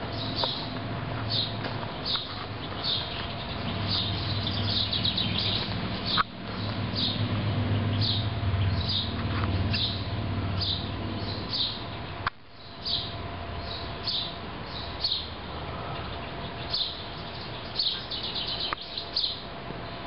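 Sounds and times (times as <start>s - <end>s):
songbird chirping: 0.0s - 20.0s
steady low hum: 0.0s - 20.0s.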